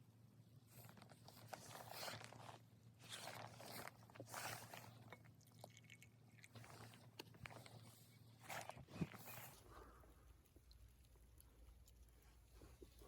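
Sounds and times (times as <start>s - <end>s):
faint crunching and scraping: 0.6s - 13.0s.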